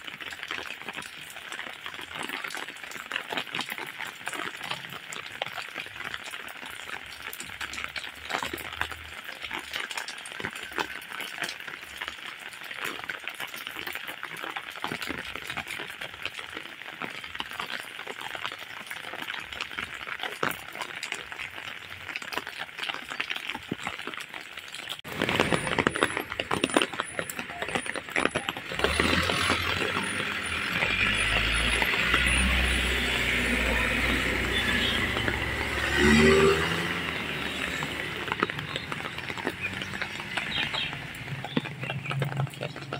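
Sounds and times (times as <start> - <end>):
rain pattering: 0.0 - 42.9
vehicle engine on wet road: 0.0 - 42.9.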